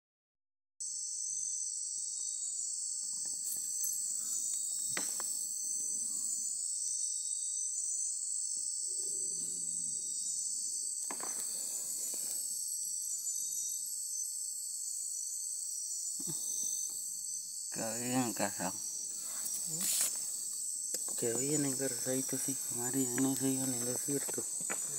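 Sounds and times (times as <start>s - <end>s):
crickets trilling: 0.8s - 24.9s.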